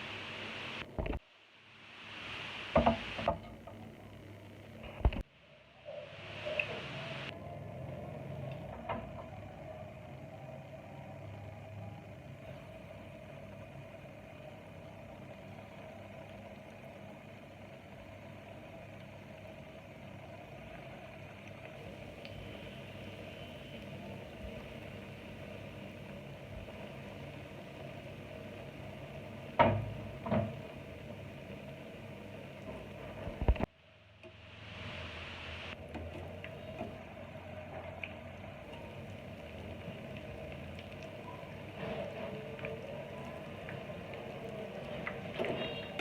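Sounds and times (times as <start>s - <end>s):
hot oil sizzling: 0.0s - 46.0s
mechanical hum: 0.0s - 46.0s.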